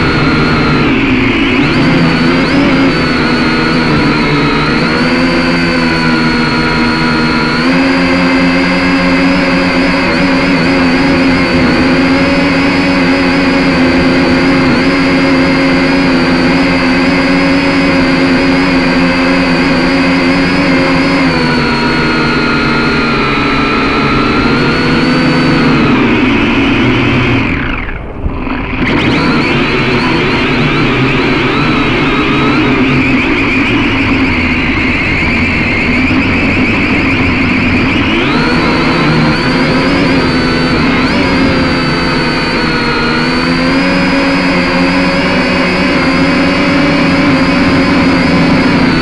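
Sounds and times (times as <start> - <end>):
drone propellers whining: 0.0 - 49.0.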